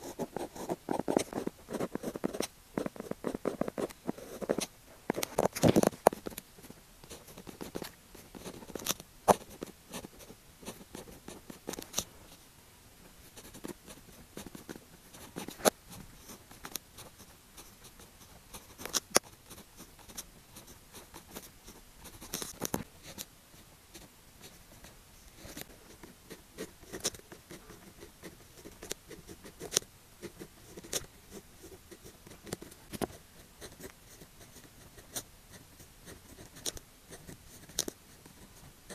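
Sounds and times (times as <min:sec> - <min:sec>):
pen scratching on paper: 0:00.0 - 0:05.2, 0:06.1 - 0:12.1, 0:13.3 - 0:23.3, 0:25.5 - 0:38.9.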